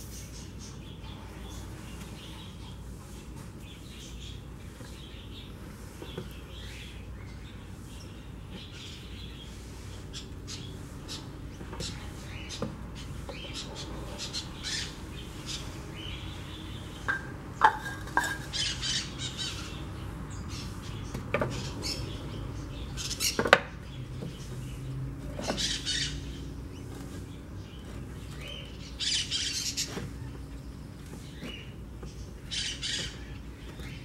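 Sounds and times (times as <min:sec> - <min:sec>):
birds squawking: 0:03.8 - 0:34.0.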